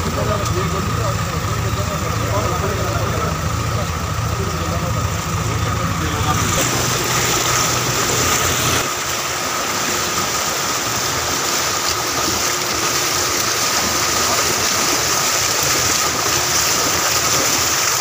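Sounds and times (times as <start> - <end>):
rushing floodwater: 0.0 - 18.0.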